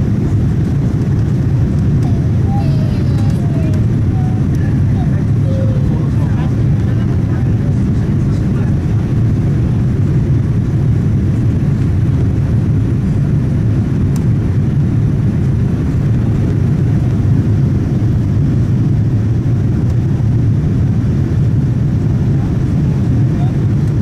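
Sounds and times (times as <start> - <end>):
jet engines rumbling: 0.0 - 24.0
rushing air in cabin: 0.0 - 24.0.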